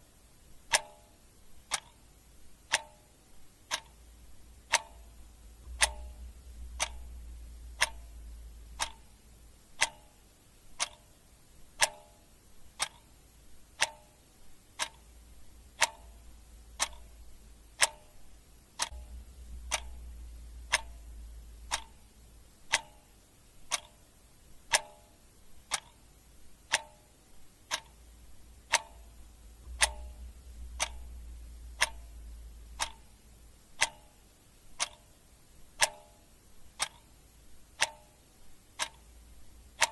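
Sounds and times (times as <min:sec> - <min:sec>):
clock ticking: 0:00.0 - 0:39.9
faint low hum: 0:00.0 - 0:39.9.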